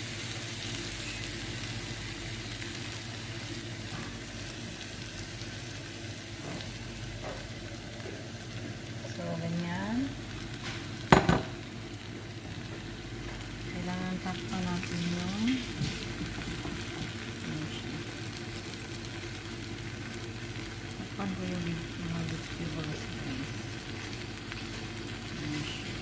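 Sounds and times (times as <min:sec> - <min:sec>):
omelette sizzling in a pan: 0:00.0 - 0:26.0.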